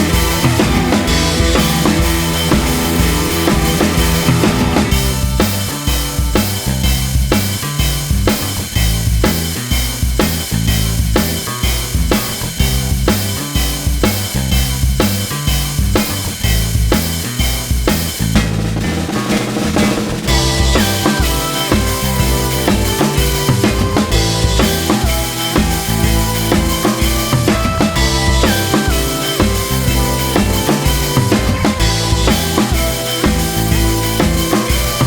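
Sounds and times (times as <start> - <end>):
drum beat with bass line: 0.0 - 35.0.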